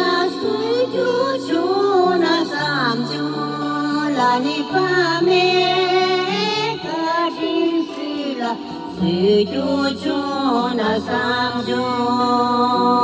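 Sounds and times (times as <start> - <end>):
woman singing into a microphone: 0.0 - 13.0.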